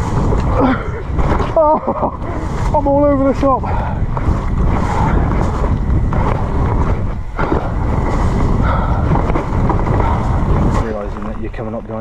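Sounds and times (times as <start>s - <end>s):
bike rattling over rough trail: 0.0s - 12.0s
wind buffeting microphone: 0.0s - 12.0s.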